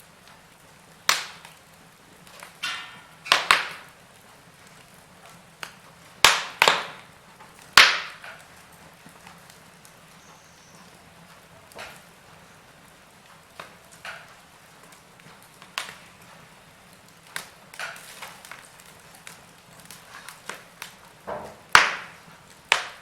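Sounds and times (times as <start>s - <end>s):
faint steady hiss: 0.0s - 23.0s
log fire crackling: 0.0s - 23.0s.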